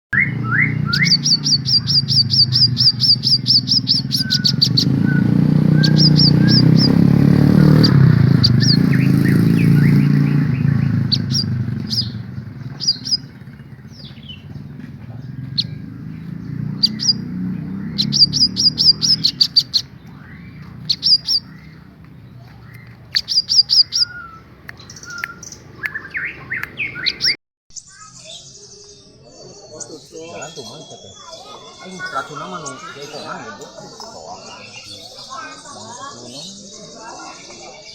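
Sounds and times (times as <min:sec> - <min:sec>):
sunbirds chirping: 0:00.1 - 0:37.9.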